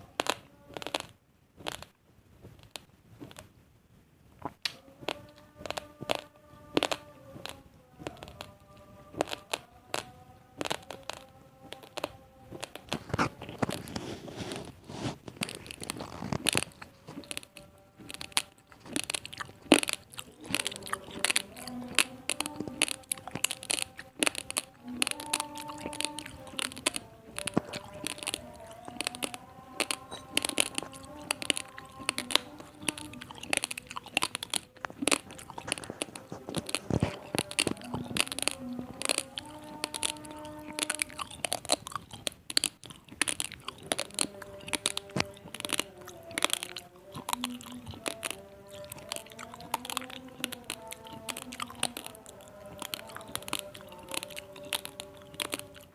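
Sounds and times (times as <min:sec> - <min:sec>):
dry rice grains crunching: 0:00.0 - 0:01.9, 0:04.8 - 0:55.9.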